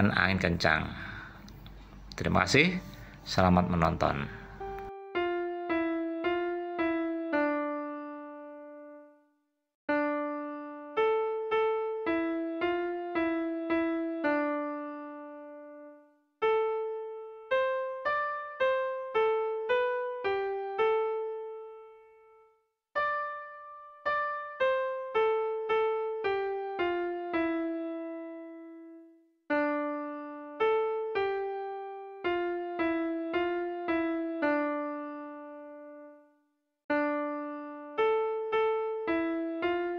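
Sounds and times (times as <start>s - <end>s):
solo piano melody: 0.0s - 39.9s.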